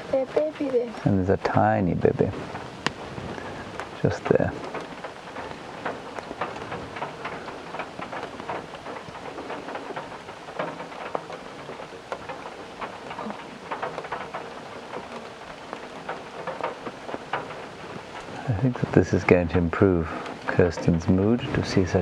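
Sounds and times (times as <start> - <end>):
heavy rain pelting down: 0.0 - 22.0.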